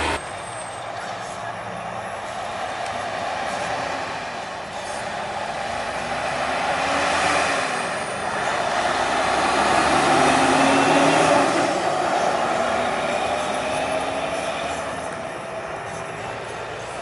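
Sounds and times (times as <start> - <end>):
truck diesel engine passing: 0.0 - 17.0.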